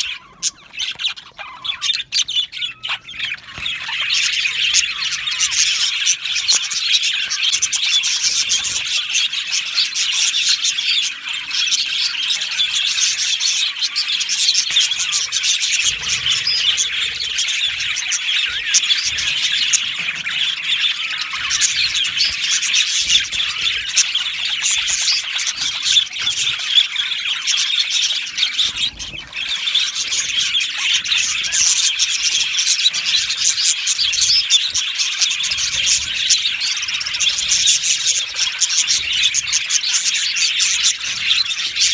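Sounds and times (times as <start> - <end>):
flock of budgerigars chattering: 0.0 - 41.9.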